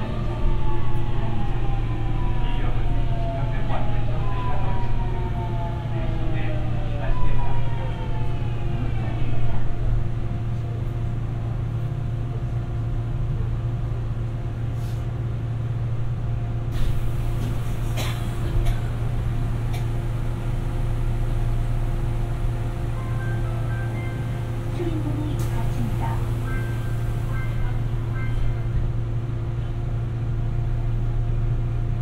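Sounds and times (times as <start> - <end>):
subway motor whine: 0.0 - 32.0
train hum and rumble: 0.0 - 32.0.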